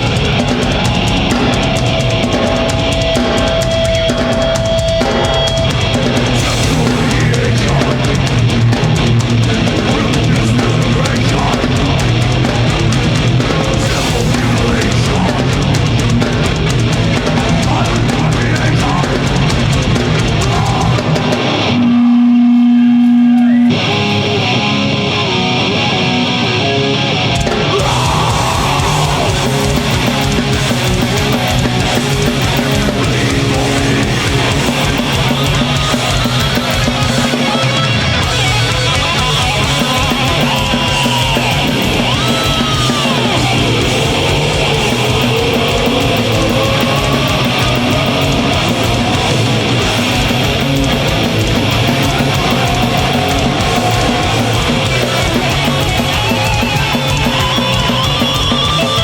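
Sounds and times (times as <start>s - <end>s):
distorted electric guitars: 0.0s - 59.0s
heavy metal band playing: 0.0s - 59.0s.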